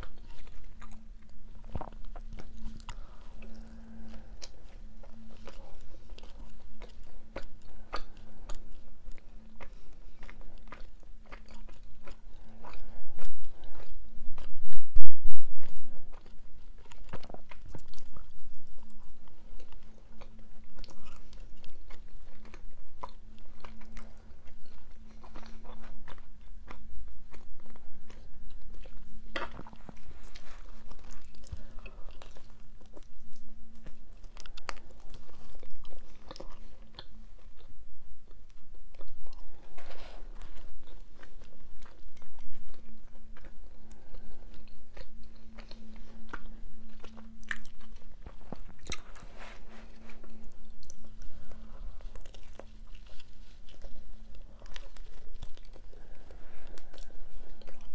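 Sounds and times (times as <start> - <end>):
chewing and biting pizza: 0.0 - 14.6, 15.6 - 57.9.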